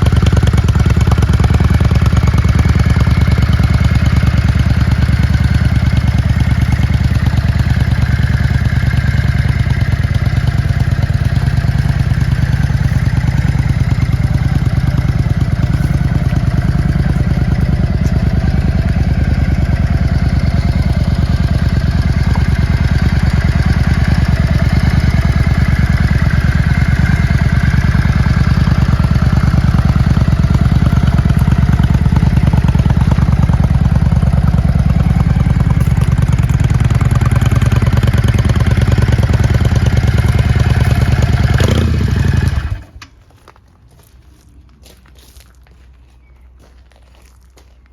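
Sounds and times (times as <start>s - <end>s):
motorcycle engine idling: 0.0s - 43.2s.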